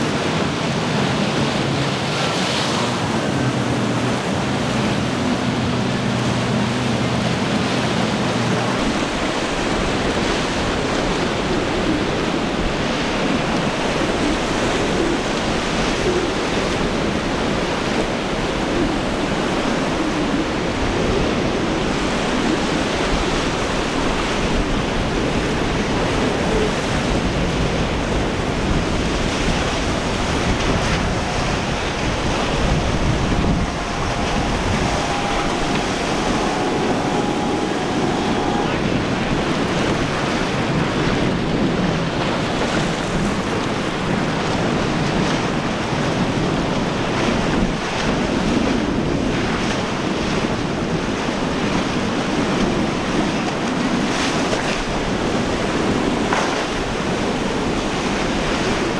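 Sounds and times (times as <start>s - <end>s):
waves and surf rushing: 0.0s - 58.9s
wind buffeting microphone: 0.0s - 58.9s.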